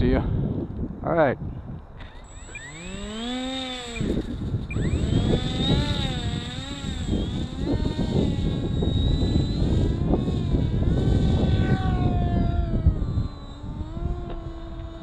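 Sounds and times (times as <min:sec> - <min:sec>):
wind rumble on microphone: 0:00.0 - 0:15.0
model airplane motor whining: 0:02.0 - 0:15.0.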